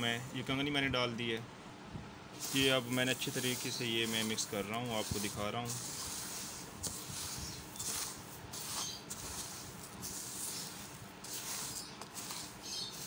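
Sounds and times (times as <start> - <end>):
dry bird seed rustling: 2.4 - 13.0.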